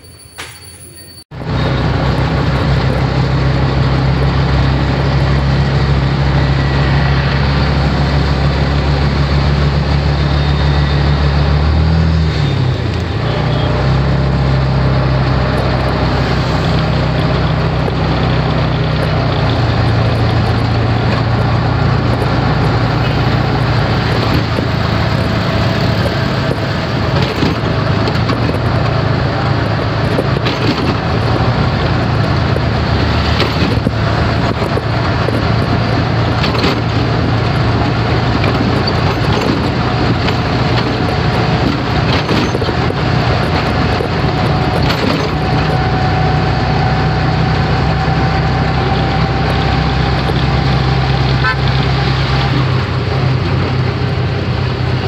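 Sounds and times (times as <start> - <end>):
road and wind noise: 0.0 - 55.0
auto-rickshaw engine running: 1.3 - 55.0.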